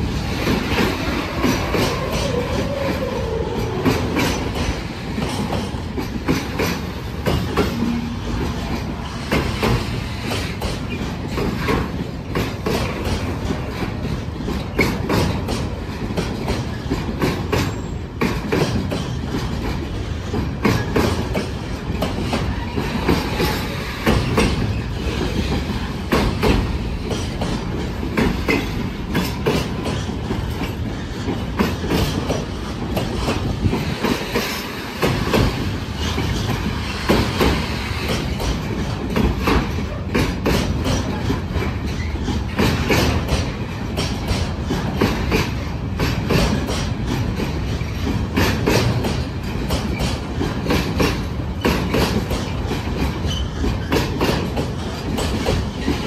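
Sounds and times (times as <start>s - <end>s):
freight train rumble: 0.0s - 56.0s
wheels clattering over rail joints: 0.0s - 56.0s.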